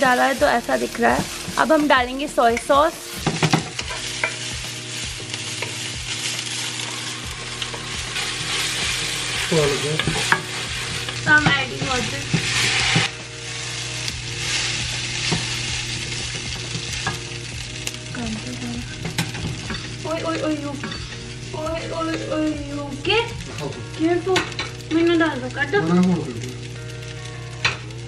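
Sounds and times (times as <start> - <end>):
sauce sizzling in a pan: 0.0 - 28.0
wok frying: 0.0 - 28.0.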